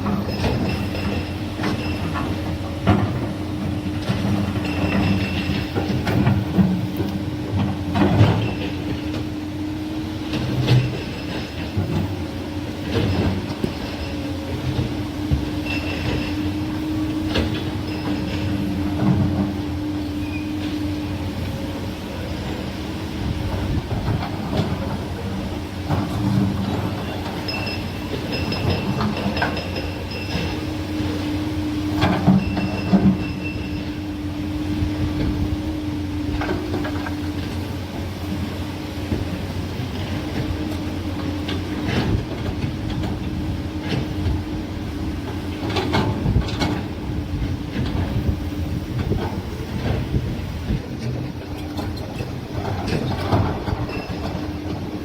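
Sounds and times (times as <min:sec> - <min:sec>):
excavator engine humming: 0:00.0 - 0:55.0.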